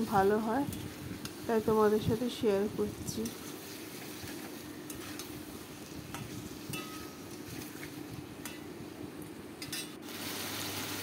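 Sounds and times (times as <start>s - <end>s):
chicken sizzling in oil: 0.0s - 8.6s, 10.0s - 11.0s.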